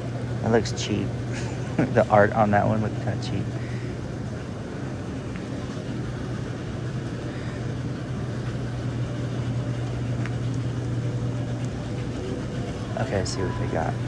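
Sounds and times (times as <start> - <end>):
grocery store background hum: 0.0 - 14.0.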